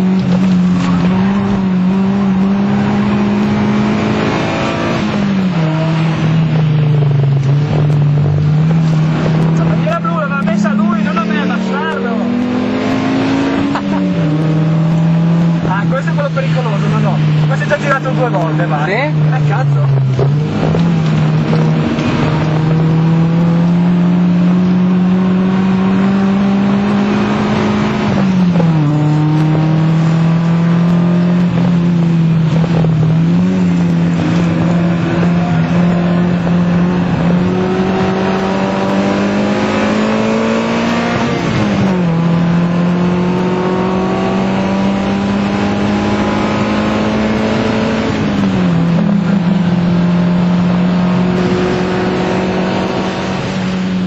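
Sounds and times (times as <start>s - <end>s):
car engine revving with gear changes: 0.0s - 54.0s.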